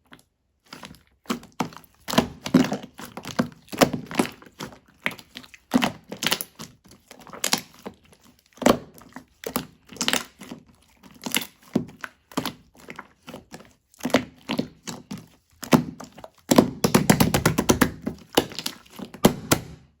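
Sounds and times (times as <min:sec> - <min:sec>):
slime squished by hand: 0:00.0 - 0:20.0.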